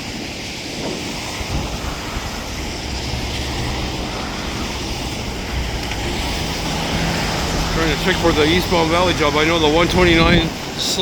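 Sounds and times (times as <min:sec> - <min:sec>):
wind buffeting microphone: 0:00.0 - 0:11.0
low engine rumble: 0:00.2 - 0:11.0.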